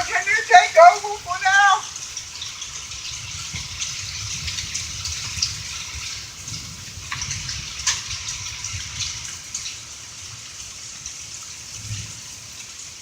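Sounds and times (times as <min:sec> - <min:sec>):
hailstones hitting: 0:00.0 - 0:13.0
rain hissing: 0:00.0 - 0:13.0.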